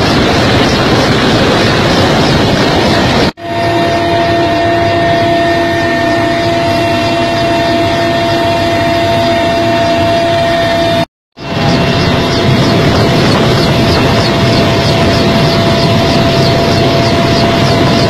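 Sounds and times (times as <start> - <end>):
helicopter rotor rush: 0.0 - 18.0
high turbine whine: 0.0 - 18.0.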